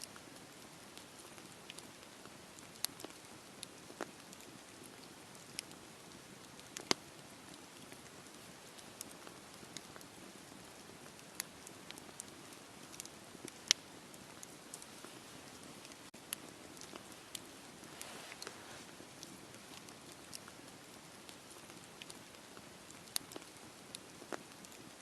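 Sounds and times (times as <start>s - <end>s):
fire soft steady hiss: 0.0s - 25.0s
wood fire crackling and popping: 0.0s - 25.0s.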